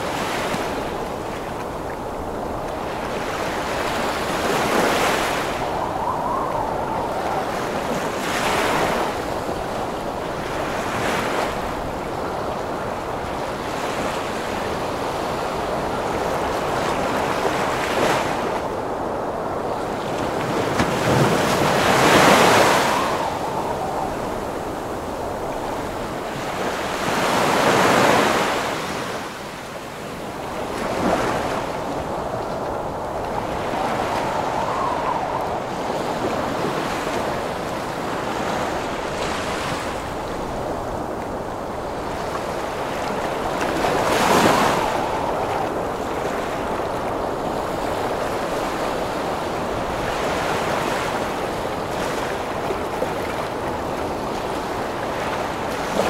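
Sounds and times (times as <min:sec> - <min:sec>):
big waves crashing: 0:00.0 - 0:56.0
surf rushing: 0:00.0 - 0:56.0.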